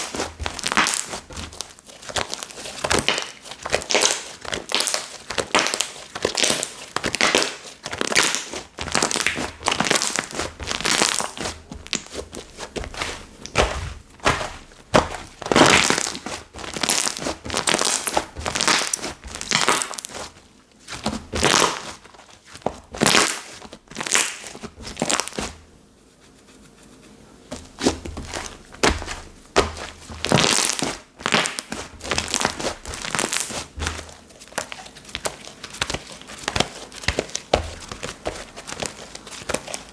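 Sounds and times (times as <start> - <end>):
slime squished by hand: 0.0 - 25.6, 27.6 - 39.9.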